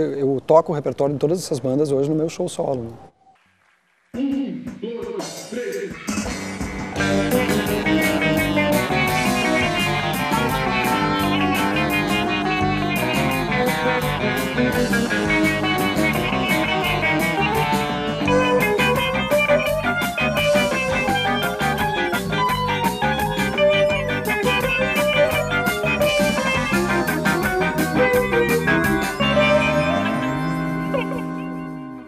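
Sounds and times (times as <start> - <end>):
live rock band playing: 5.9 - 32.0.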